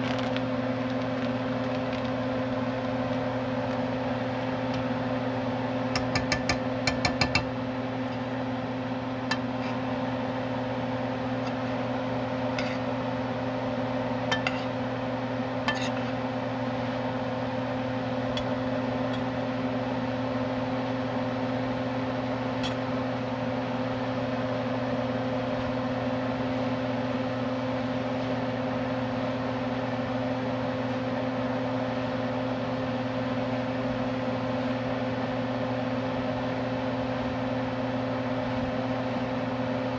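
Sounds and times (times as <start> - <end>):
kitchen appliance humming: 0.0 - 39.9.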